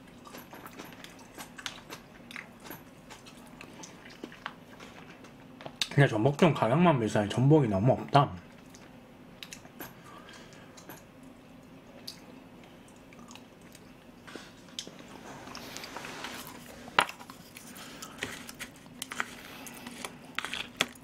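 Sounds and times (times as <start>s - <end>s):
chewing and wet mouth noises: 0.0s - 6.0s, 8.4s - 21.0s.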